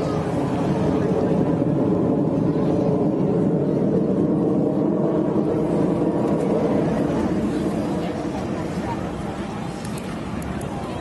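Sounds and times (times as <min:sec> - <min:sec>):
jet engines rumbling overhead: 0:00.0 - 0:11.0.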